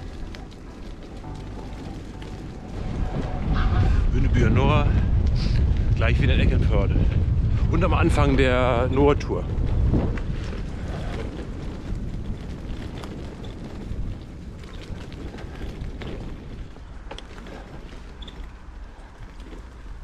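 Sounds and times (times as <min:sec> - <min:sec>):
bicycle tyres rolling on dirt: 0:00.0 - 0:20.0
wind rumble on microphone: 0:00.0 - 0:20.0.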